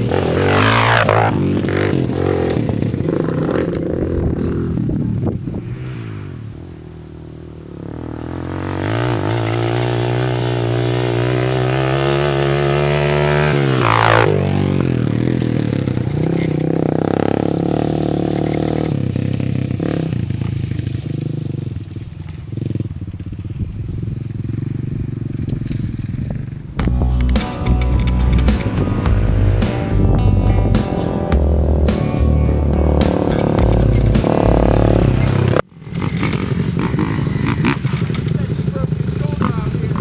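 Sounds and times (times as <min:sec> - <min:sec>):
atv engine revving: 0:00.0 - 0:40.0.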